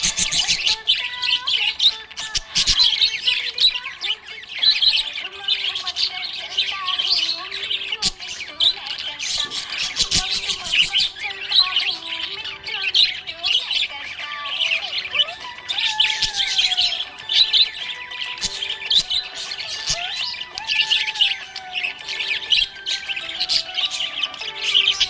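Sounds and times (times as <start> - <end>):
parrots chirping and squawking: 0.0 - 25.0.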